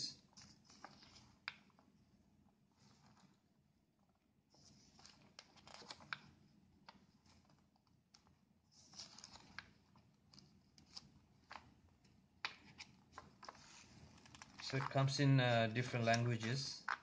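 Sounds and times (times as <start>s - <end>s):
paper pages rustling: 0.2s - 1.9s, 4.5s - 17.0s.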